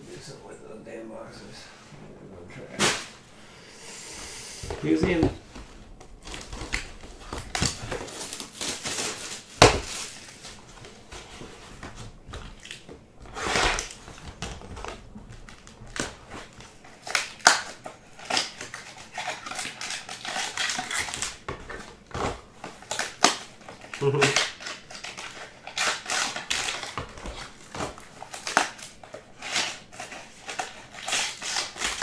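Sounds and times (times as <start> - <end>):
foil wrapper crinkling: 4.8 - 32.0.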